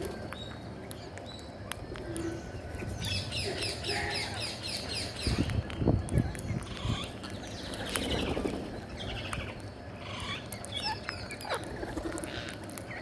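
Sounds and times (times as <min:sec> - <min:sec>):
parakeets chirping and squawking: 0:01.9 - 0:13.0.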